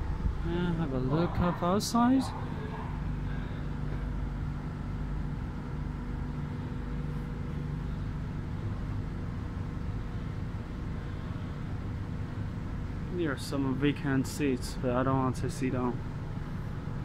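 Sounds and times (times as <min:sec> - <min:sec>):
train car interior hum: 0:00.0 - 0:17.0
ventilation tones: 0:00.0 - 0:17.0.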